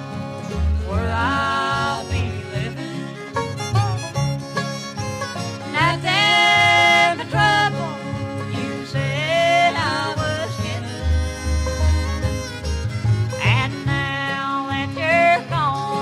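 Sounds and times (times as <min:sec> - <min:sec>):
bluegrass band playing: 0:00.0 - 0:16.0
fiddle with sliding held notes: 0:00.0 - 0:16.0.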